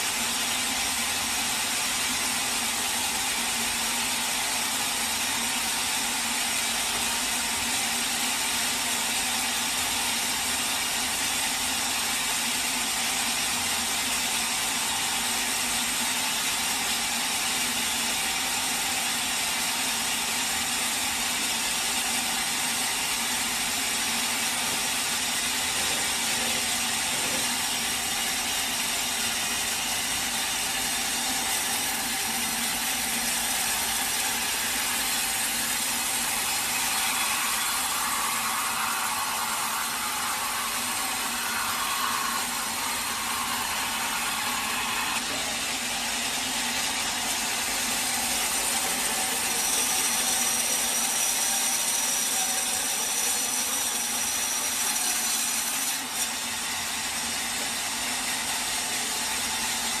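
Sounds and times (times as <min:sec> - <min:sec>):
bandsaw sawmill running: 0:00.0 - 1:00.0.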